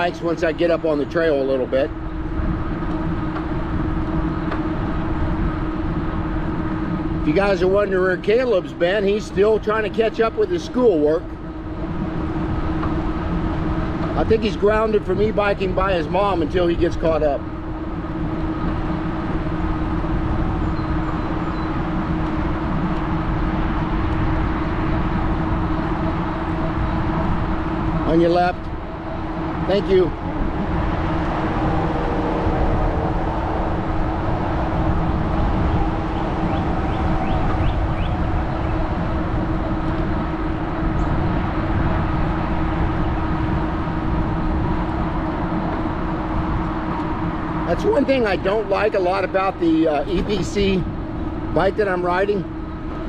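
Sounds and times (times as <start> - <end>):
steady motor hum: 0.0 - 53.0
wind rumble on microphone: 0.0 - 53.0.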